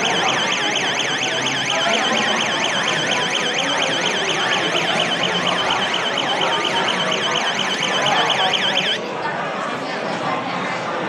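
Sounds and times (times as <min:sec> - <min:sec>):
warbling electronic alarm siren: 0:00.0 - 0:09.0.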